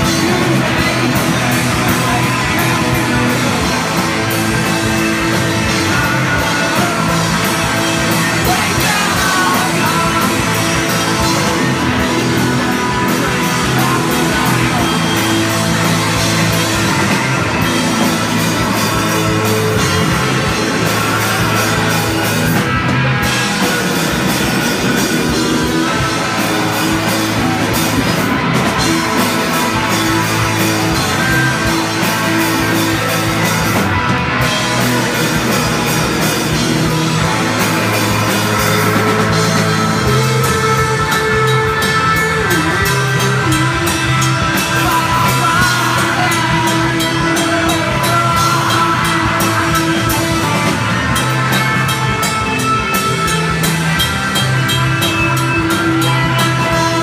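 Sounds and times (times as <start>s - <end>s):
drum kit pounding: 0.0s - 57.0s
live rock band playing: 0.0s - 57.0s.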